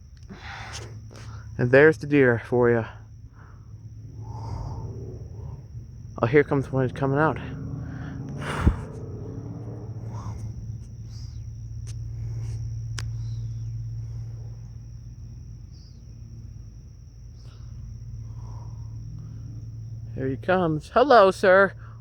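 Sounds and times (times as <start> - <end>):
crickets trilling: 0.0 - 22.0
low steady hum: 0.0 - 22.0.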